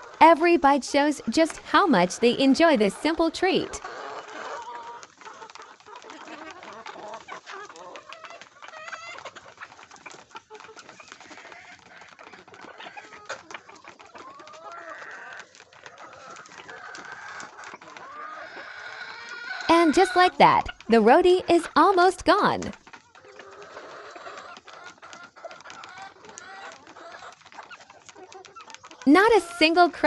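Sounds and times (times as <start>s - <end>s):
hens clucking: 0.0s - 30.0s.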